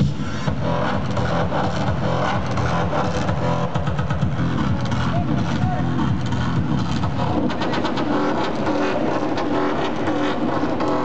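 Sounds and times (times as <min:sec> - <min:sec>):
electro dance music: 0:00.0 - 0:11.0.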